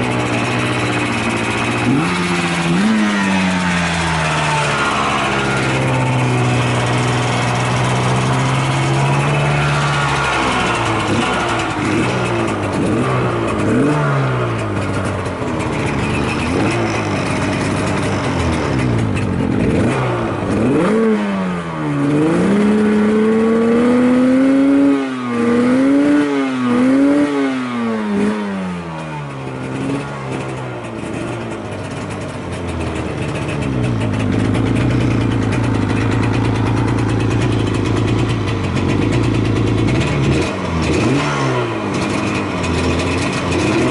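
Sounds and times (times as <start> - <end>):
two-stroke engine revving: 0.0 - 43.9.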